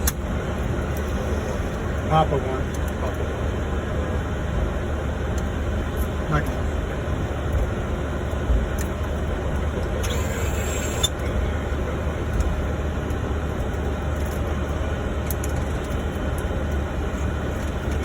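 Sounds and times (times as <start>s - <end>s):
aircraft cockpit rumble and hiss: 0.0s - 18.0s.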